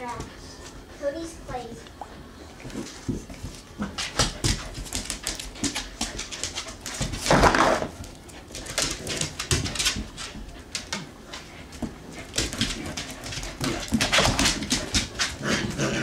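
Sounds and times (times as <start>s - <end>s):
paws scuffling on tile floor: 0.0s - 16.0s.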